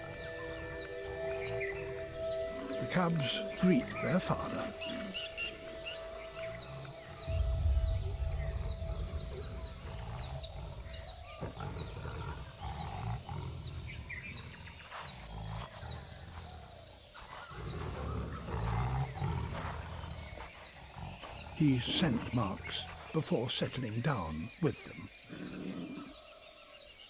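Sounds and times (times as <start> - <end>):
tigers growling: 0.0 - 26.8.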